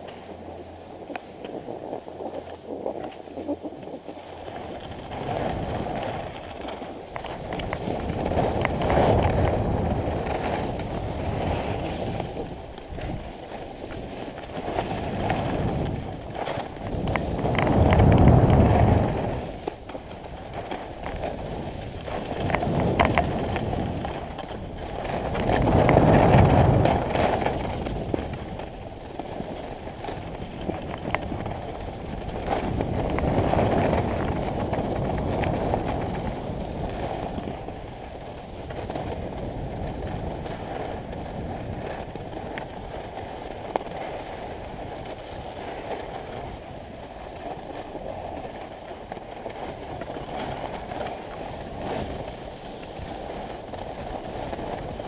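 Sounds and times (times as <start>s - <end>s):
skis scraping over snow: 0.0s - 55.0s
wind on microphone: 0.0s - 55.0s.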